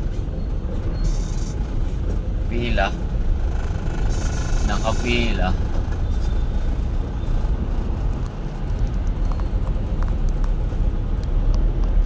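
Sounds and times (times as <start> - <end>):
idling traffic rumble: 0.0 - 12.0.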